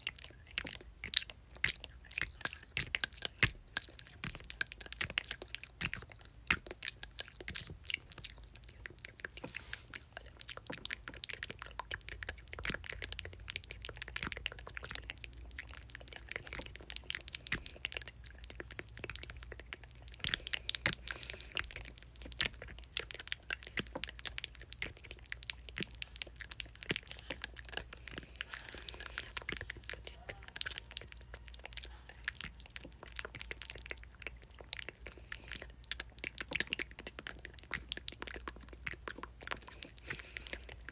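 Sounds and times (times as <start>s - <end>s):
wet mouth clicks and smacks: 0.0s - 40.9s.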